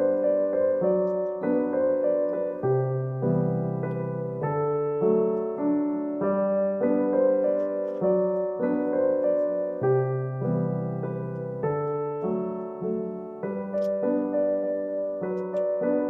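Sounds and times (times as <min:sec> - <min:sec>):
soft slow piano music: 0:00.0 - 0:16.0.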